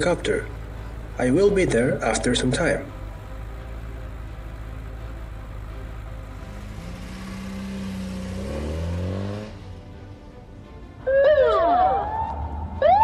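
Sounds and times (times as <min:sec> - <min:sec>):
car engine revving and accelerating: 0:00.0 - 0:10.5.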